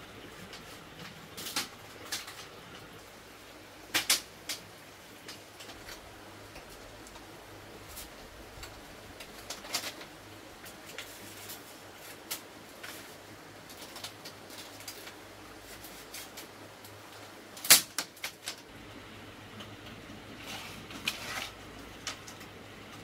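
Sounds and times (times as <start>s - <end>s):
bamboo strips clicking: 0.4s - 2.9s, 3.9s - 7.3s, 7.9s - 18.7s, 20.9s - 23.0s.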